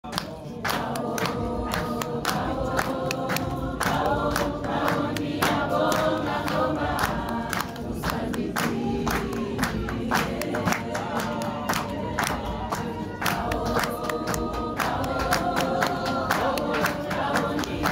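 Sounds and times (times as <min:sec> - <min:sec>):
rhythmic hand-clapping: 0:00.0 - 0:17.9
group singing gospel song: 0:00.1 - 0:17.9.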